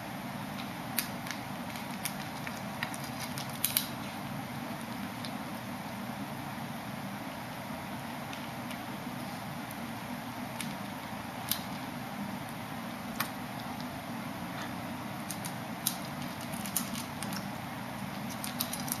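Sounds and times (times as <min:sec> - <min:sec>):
kitten crunching dry kibble: 0:00.5 - 0:05.6, 0:07.4 - 0:19.0.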